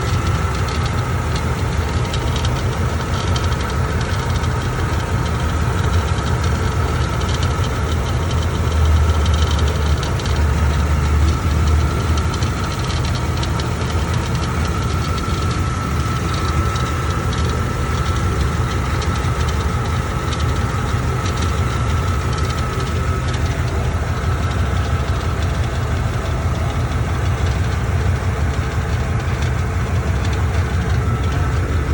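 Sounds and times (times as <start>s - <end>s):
car engine running: 0.0s - 31.9s
creaking and ticking undercarriage: 0.0s - 31.9s.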